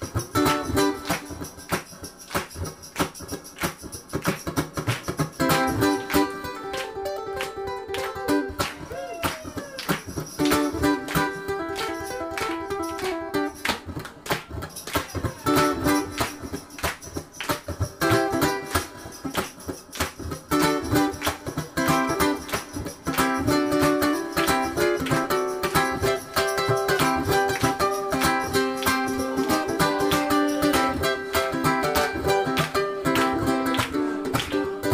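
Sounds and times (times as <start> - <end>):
percussive ukulele strokes: 0.0 - 34.9
ukulele playing: 0.0 - 34.9.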